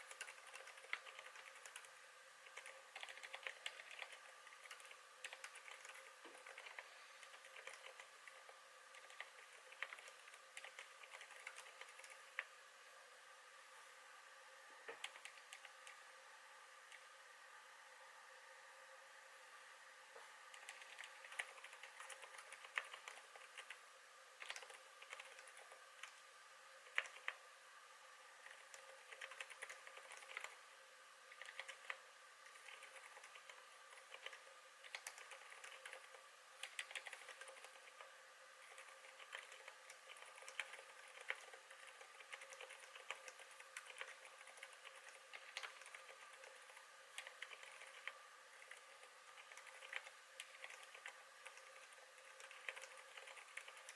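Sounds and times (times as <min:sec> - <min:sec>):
quiet keyboard keystrokes: 0:00.0 - 0:12.5, 0:14.8 - 0:16.0, 0:20.2 - 0:23.8, 0:24.4 - 0:26.2, 0:26.8 - 0:27.4, 0:28.4 - 0:30.6, 0:31.3 - 0:53.9
steady background hum: 0:00.0 - 0:53.9.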